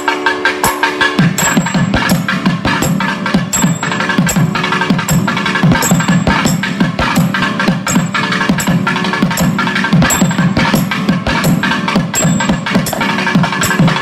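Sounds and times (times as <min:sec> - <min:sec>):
thavil drum strokes: 0:00.0 - 0:14.0.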